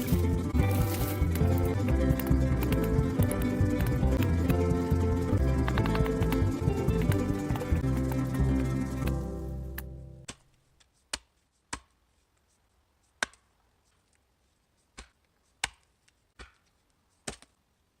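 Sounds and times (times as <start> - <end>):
axe chopping wood: 0.2 - 12.0, 13.2 - 13.5, 14.9 - 17.6.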